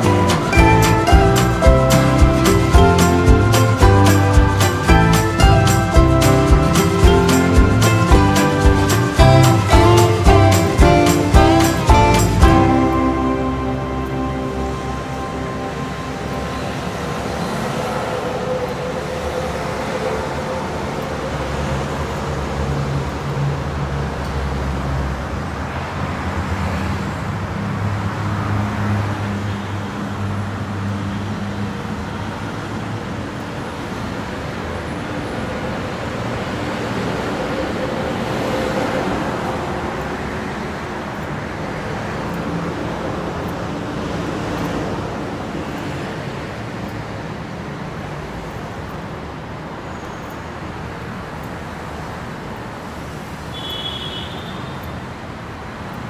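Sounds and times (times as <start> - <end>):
road traffic rushing: 0.0 - 56.0.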